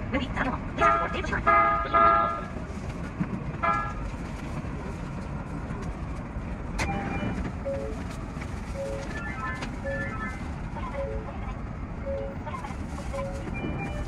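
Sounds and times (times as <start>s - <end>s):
electric train low rumble: 0.0s - 14.0s.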